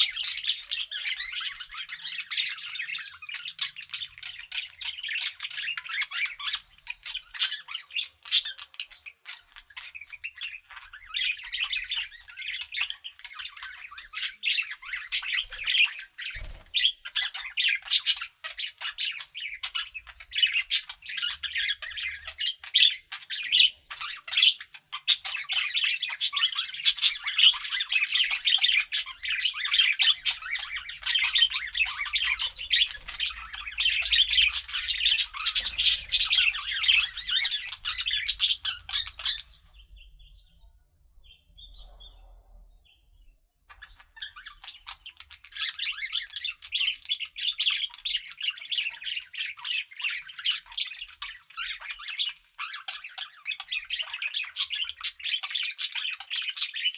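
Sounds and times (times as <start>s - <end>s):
budgerigars chattering: 0.0s - 39.9s, 43.7s - 56.9s.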